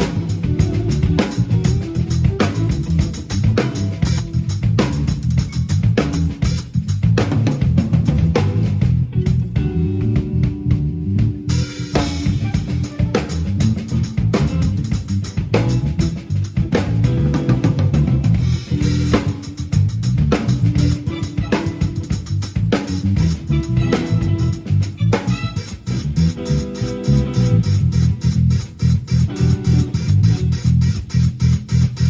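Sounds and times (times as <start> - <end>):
bass guitar: 0.0 - 32.0
drum kit beat: 0.0 - 32.0
electric guitar: 0.0 - 32.0.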